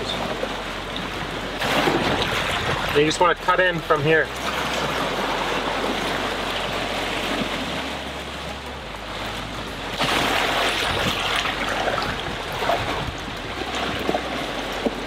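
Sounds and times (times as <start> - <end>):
sea water rushing along hull: 0.0 - 15.0.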